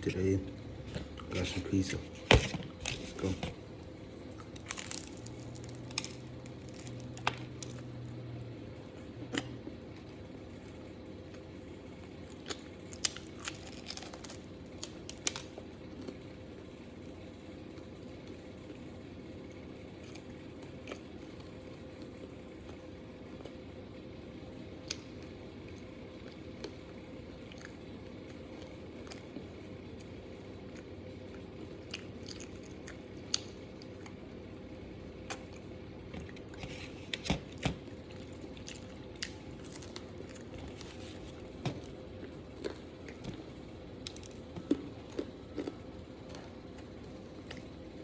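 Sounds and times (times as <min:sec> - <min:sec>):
steady low hum: 0:00.0 - 0:48.0
person chewing pizza: 0:00.7 - 0:23.9, 0:24.7 - 0:48.0.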